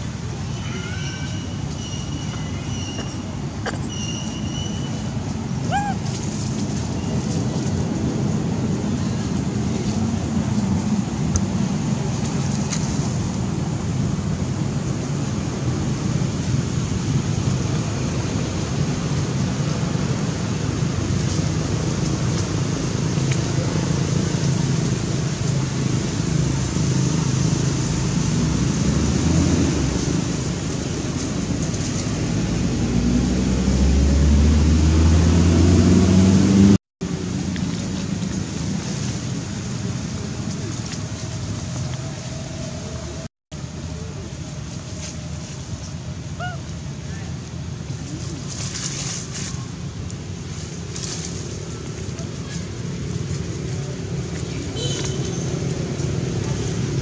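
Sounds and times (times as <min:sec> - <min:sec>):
low rumbling background noise: 0:00.0 - 0:57.0.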